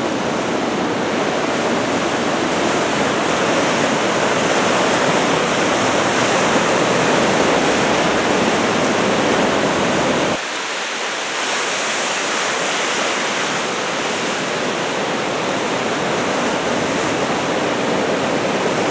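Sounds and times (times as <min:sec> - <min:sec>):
heavy surf breaking: 0:00.0 - 0:18.9.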